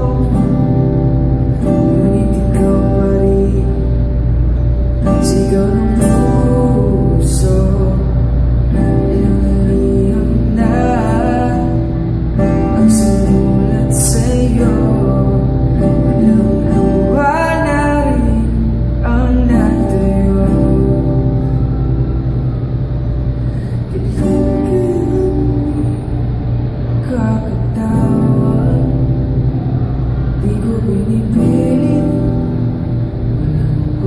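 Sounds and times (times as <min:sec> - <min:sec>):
man singing a ballad: 0:00.0 - 0:04.1, 0:05.0 - 0:21.8, 0:23.5 - 0:29.7, 0:30.3 - 0:32.8
acoustic guitar chords: 0:00.0 - 0:34.0.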